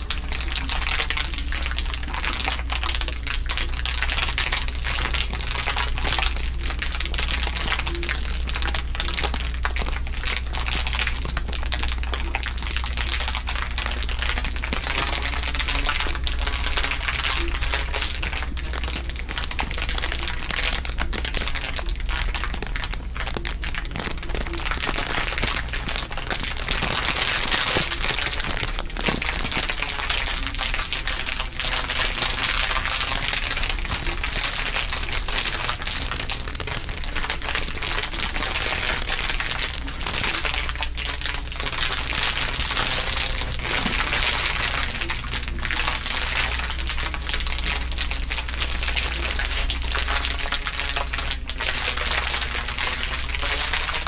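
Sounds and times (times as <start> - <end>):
layered crinkling: 0.0 - 54.0.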